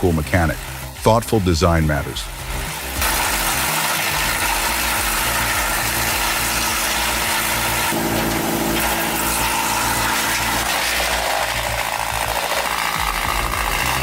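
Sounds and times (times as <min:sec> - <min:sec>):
wood chipper and tractor engine: 0:02.3 - 0:14.0.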